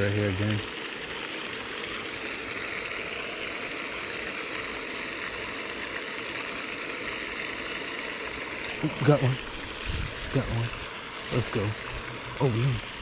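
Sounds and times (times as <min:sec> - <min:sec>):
fountain spray splashing: 0:00.0 - 0:13.0.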